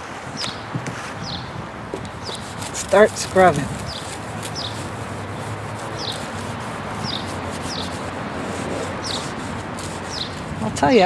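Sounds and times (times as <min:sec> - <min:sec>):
bird chirping: 0:01.2 - 0:10.7
lemon scrubbing plastic lens: 0:02.0 - 0:11.0.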